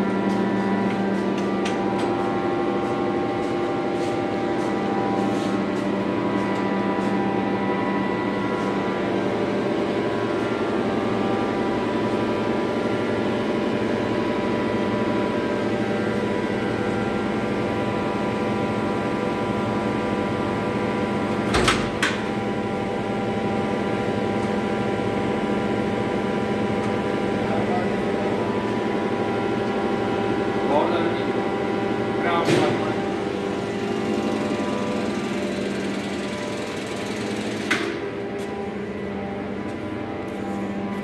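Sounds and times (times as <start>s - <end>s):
generator machinery hum: 0.0s - 41.0s.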